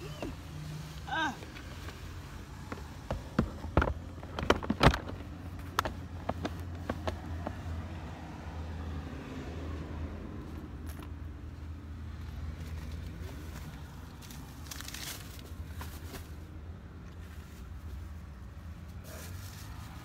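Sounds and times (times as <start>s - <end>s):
car low hum: 0.0s - 20.0s.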